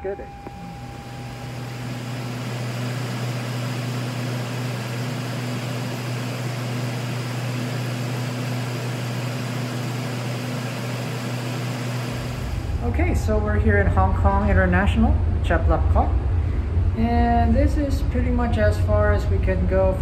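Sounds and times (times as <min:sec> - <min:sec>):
airliner cabin airflow and engine noise: 0:00.0 - 0:20.0
steady low hum: 0:00.0 - 0:20.0.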